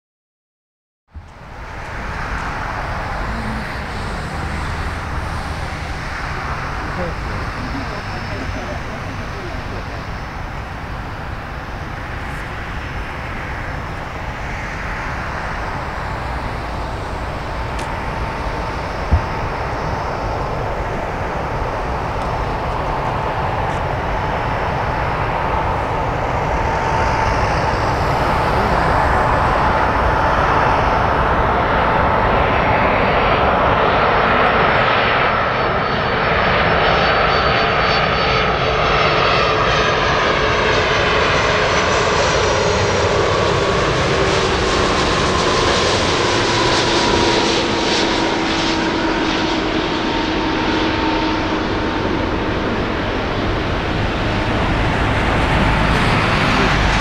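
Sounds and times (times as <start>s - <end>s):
airliner jet noise: 1.2s - 57.0s.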